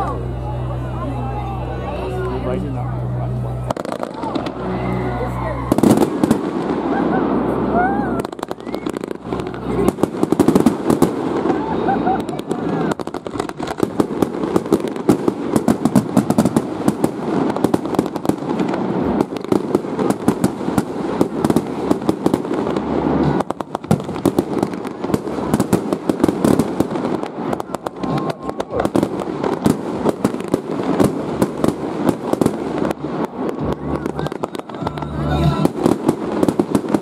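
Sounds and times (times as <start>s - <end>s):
fireworks bursting and crackling: 2.3s - 37.0s.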